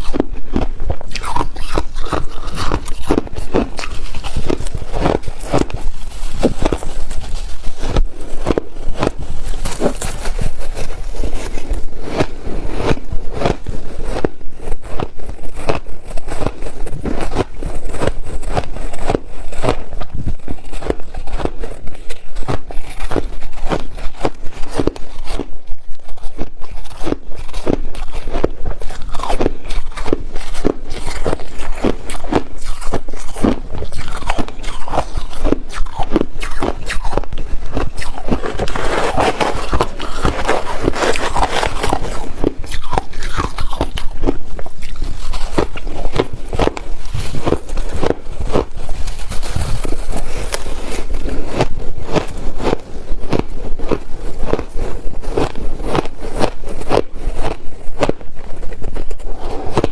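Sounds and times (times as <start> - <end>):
person chewing ice: 0.0 - 59.9.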